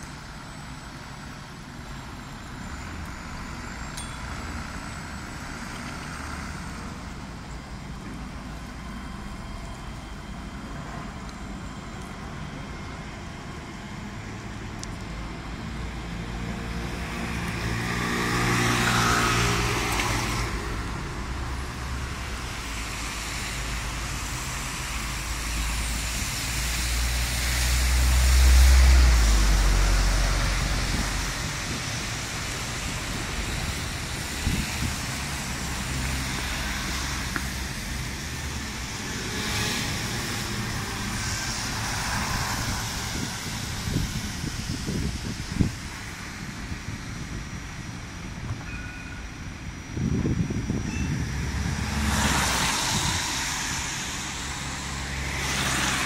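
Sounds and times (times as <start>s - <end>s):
bus diesel rumble: 0.0s - 56.0s
road traffic passing: 0.0s - 56.0s.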